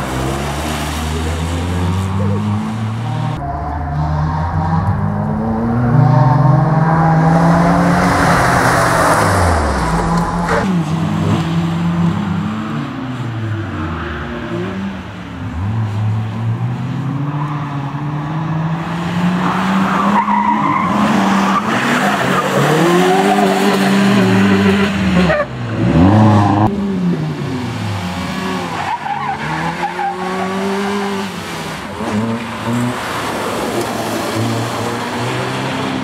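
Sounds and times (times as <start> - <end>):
rally car engine at full throttle: 0.0 - 36.0.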